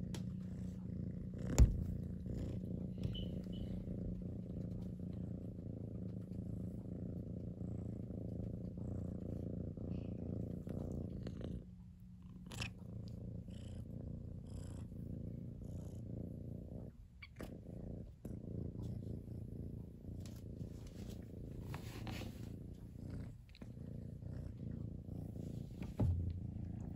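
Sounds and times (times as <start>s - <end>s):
cat purring: 0.0s - 26.9s.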